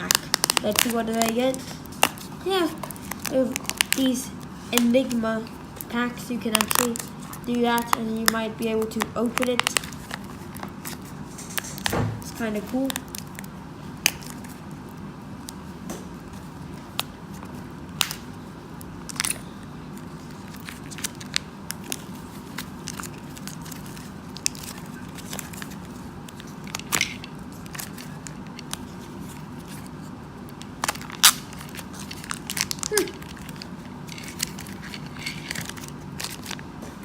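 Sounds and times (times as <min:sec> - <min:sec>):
wrapper crackling and tearing: 0:00.0 - 0:15.6, 0:16.7 - 0:36.7
low room hum: 0:00.0 - 0:37.0.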